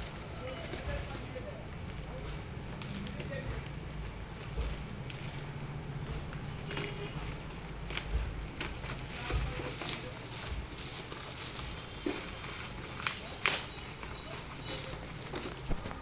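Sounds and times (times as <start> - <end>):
packing material rustling: 0.0 - 16.0.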